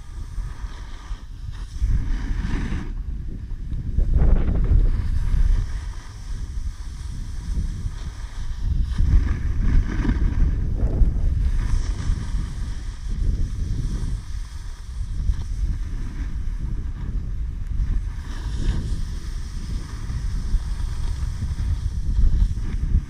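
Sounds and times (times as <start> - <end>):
snowboard sliding over snow: 0.0 - 23.0
wind buffeting microphone: 0.0 - 23.0.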